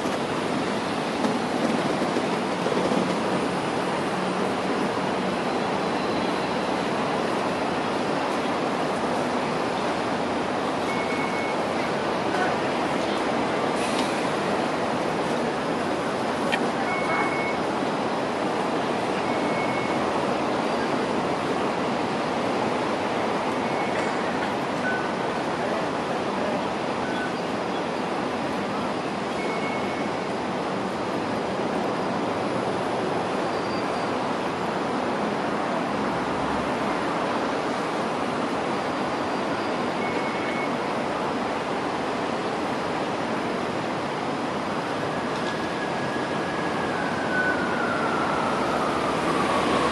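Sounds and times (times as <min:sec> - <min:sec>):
light rail train running: 0:00.0 - 0:49.9
traffic noise: 0:00.0 - 0:49.9
tram rolling: 0:00.0 - 0:49.9.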